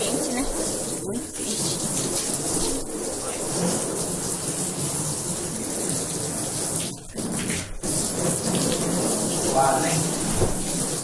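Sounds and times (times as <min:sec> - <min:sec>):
hose spraying water on plastic: 0:00.0 - 0:11.0.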